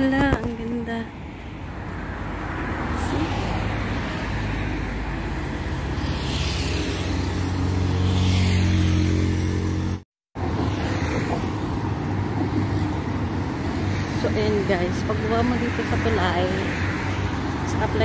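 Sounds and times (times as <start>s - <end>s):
car engines passing: 0.0s - 18.0s.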